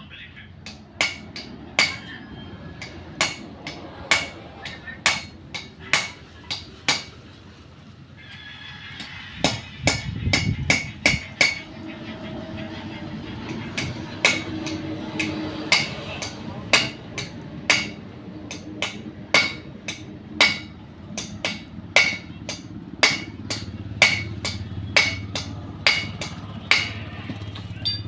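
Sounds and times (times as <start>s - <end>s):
hammer striking metal: 0.6s - 7.1s, 9.4s - 28.0s.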